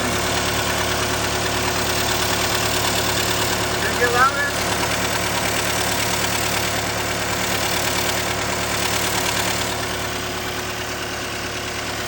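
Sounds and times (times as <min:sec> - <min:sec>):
diesel engine running: 0:00.0 - 0:12.0
rapid ticking of exhaust leak: 0:00.0 - 0:12.0.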